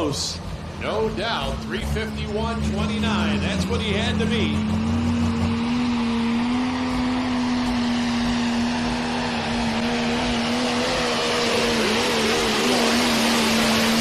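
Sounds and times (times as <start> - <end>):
diesel engine at high revs: 0.0 - 14.0.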